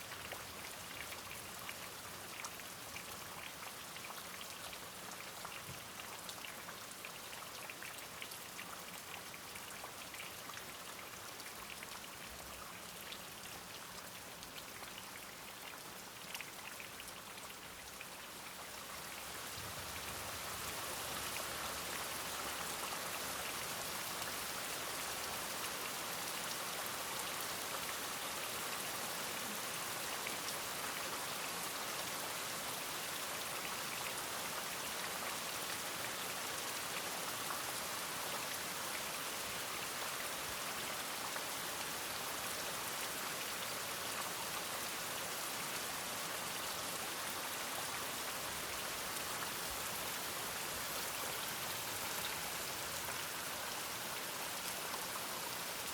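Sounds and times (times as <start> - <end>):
steady rain pattering: 0.0 - 55.9.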